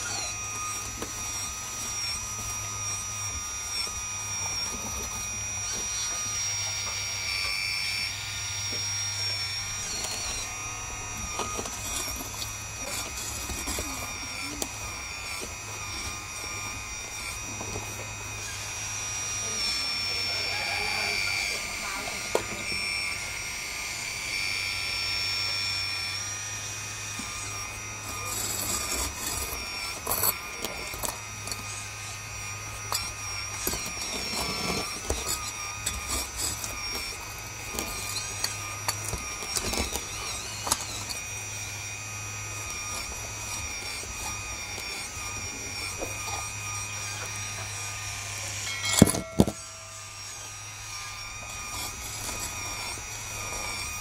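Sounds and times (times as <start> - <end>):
hydraulic pump whining: 0.0 - 54.0.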